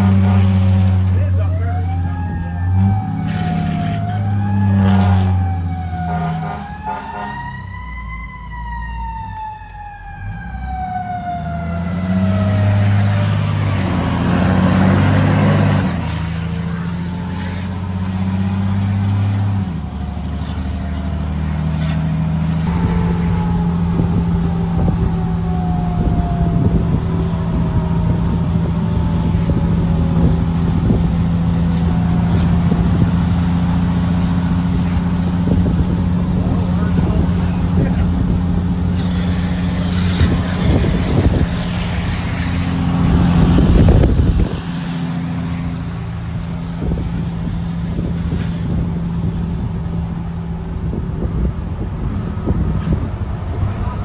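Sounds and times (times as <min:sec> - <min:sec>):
heavy truck engine rattling: 0:00.0 - 0:07.3, 0:11.6 - 0:54.0
fire truck siren wailing: 0:00.0 - 0:54.0.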